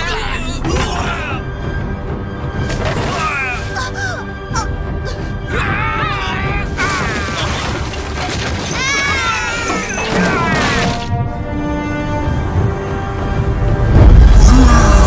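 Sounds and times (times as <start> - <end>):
loud dramatic music: 0.0 - 15.0.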